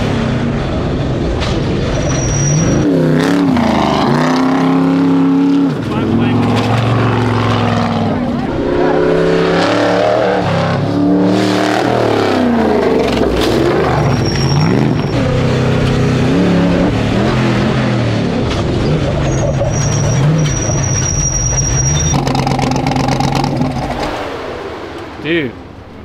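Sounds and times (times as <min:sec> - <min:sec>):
truck engine revving hard: 0:00.0 - 0:24.6.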